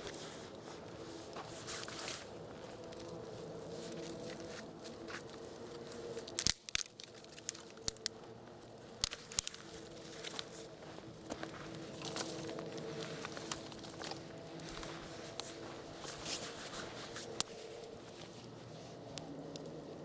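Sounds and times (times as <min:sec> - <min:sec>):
faint steady hum: 0:00.0 - 0:20.0
wood fire crackling: 0:00.0 - 0:20.0.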